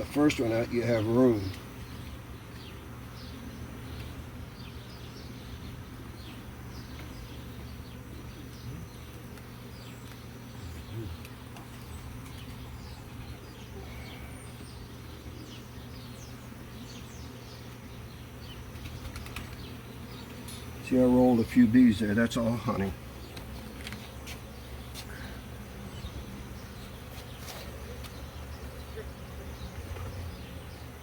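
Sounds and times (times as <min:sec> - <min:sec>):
honeybees humming: 0:00.0 - 0:31.0.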